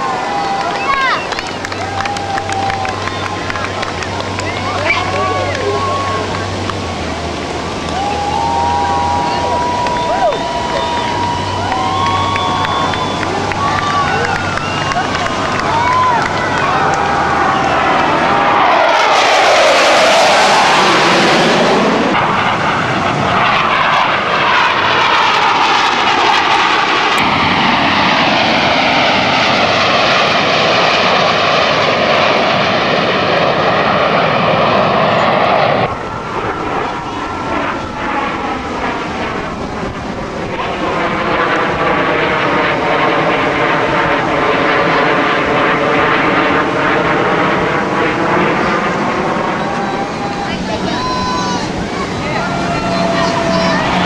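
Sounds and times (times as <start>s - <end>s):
jets roaring past: 0.0s - 54.0s.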